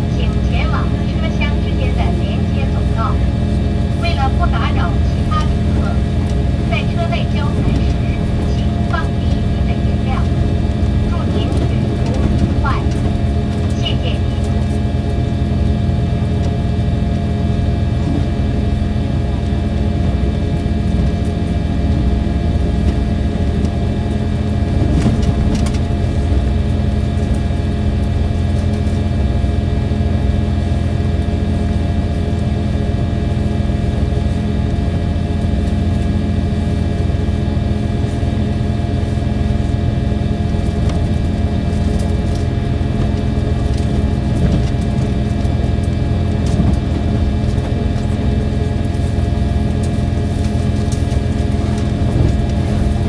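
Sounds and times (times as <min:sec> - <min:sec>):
diesel train engine humming: 0:00.0 - 0:53.0.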